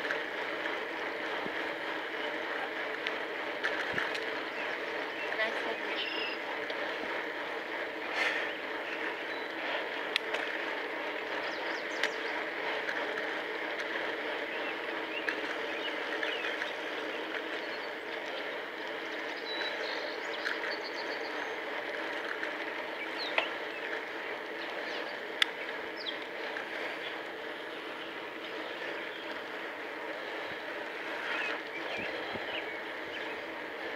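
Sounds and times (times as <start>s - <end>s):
bicycle tyres on pavement: 0.0s - 33.9s.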